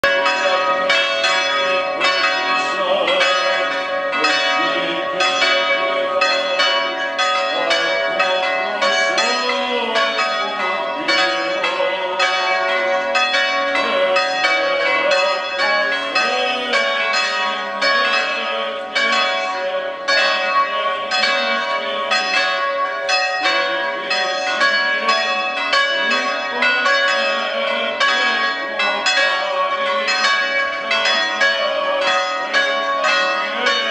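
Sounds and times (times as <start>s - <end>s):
large bells sustained tones: 0.0s - 33.9s.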